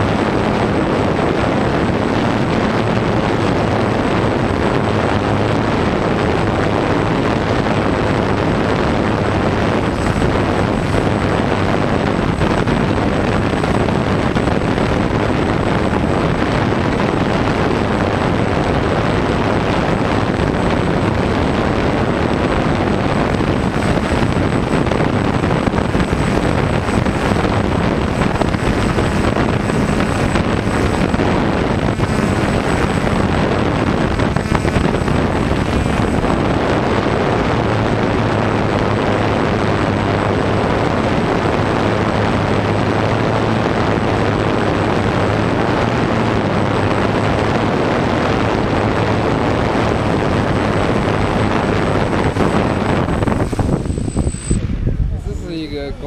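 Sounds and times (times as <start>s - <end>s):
drone propellers whirring: 0.0s - 56.0s.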